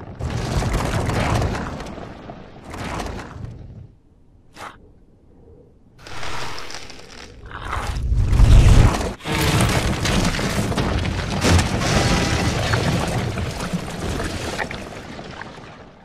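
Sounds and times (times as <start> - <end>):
crashing and crumbling debris: 0.0 - 3.6, 6.0 - 16.0.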